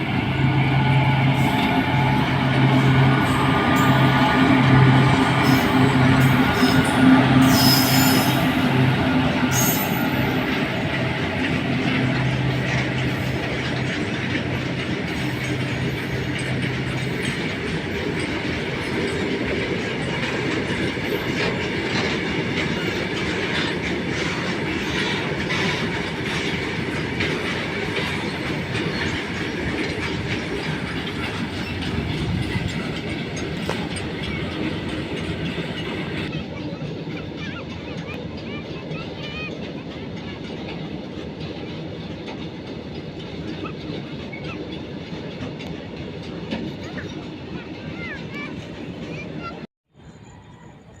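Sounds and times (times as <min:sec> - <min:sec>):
wheels clattering on rails: 0:00.0 - 0:50.4
train passing at speed: 0:00.0 - 0:51.0.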